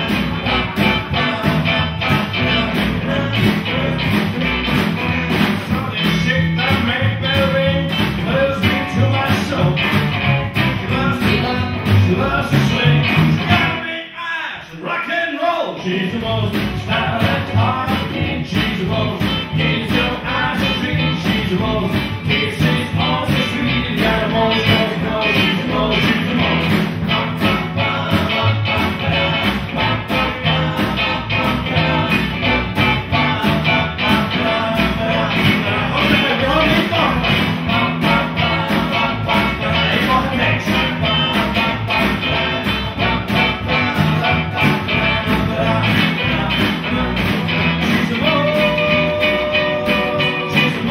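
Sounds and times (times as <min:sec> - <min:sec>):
drum kit beat: 0:00.0 - 0:13.8, 0:16.2 - 0:50.9
electric guitar: 0:00.0 - 0:13.8, 0:15.9 - 0:50.9
upright bass: 0:00.0 - 0:13.8, 0:15.9 - 0:50.9.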